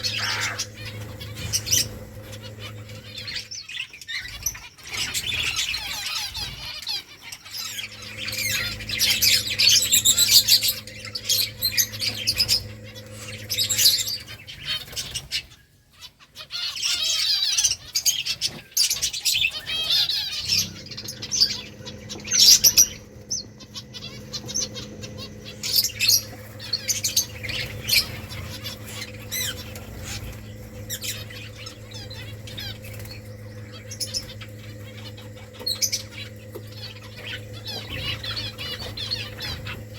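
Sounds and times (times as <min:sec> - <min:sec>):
steady low hum: 0:00.0 - 0:15.6, 0:18.9 - 0:39.9
wings fluttering: 0:00.0 - 0:15.6, 0:18.3 - 0:39.9
finches chirping: 0:00.0 - 0:39.9.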